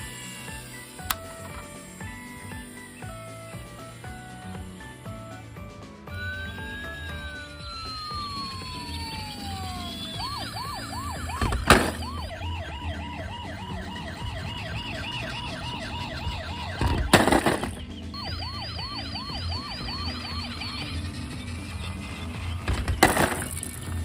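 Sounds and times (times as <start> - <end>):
toy electronic siren: 0.0 - 24.0.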